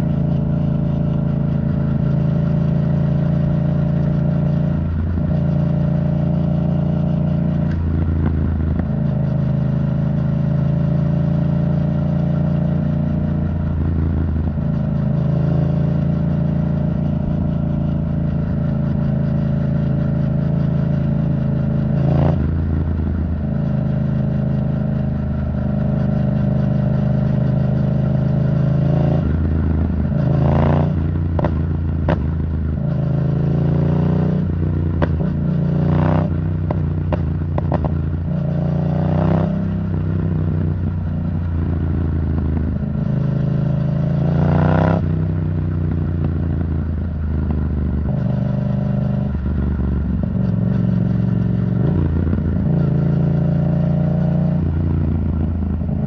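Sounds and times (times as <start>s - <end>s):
motorcycle engine under throttle: 0.0s - 56.0s.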